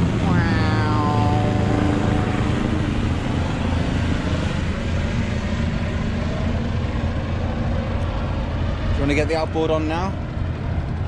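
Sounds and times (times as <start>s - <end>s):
helicopter rotor drone: 0.0s - 11.0s.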